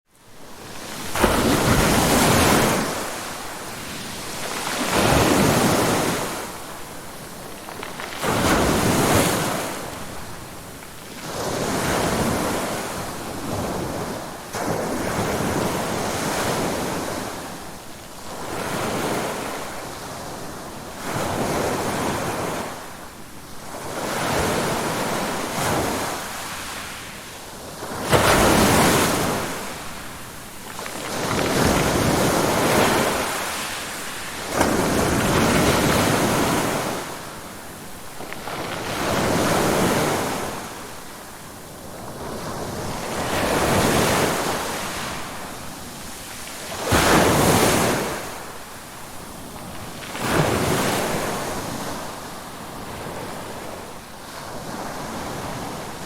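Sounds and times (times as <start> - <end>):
ocean waves breaking on shore: 0.2 - 56.0.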